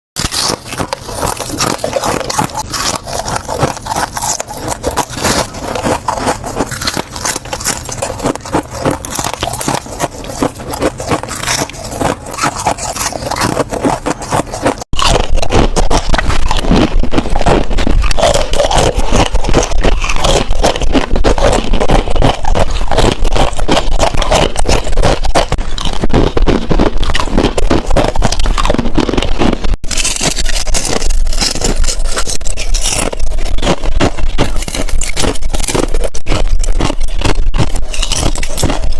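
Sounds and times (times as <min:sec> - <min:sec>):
ice crunching being chewed: 0:00.2 - 0:38.9.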